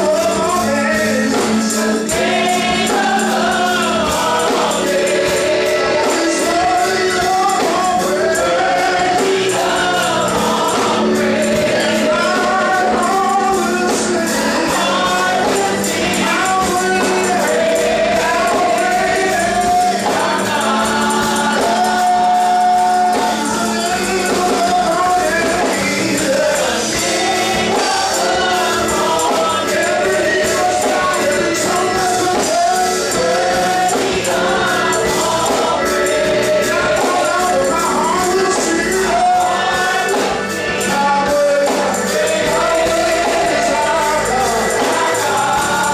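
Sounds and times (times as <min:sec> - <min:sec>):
gospel choir singing: 0:00.0 - 0:45.9
held organ tone: 0:00.0 - 0:45.9
tambourine beating: 0:00.0 - 0:45.9.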